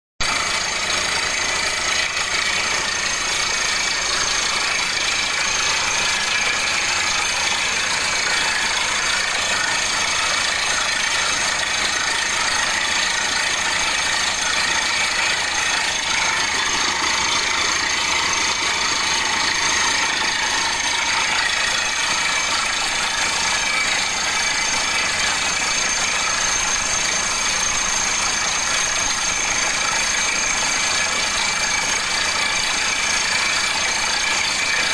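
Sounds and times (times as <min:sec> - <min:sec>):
drilling rig running: 0:00.2 - 0:34.9.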